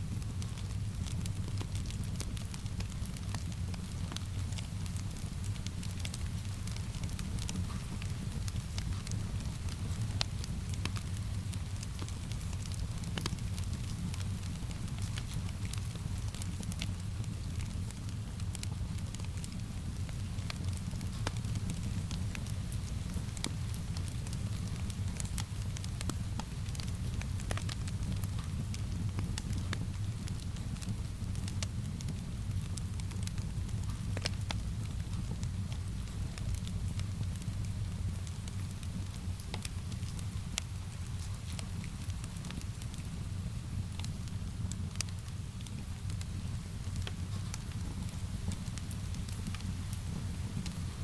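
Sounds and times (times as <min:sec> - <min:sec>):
fire crackling and popping: 0:00.0 - 0:51.0
soft rain: 0:00.0 - 0:51.0.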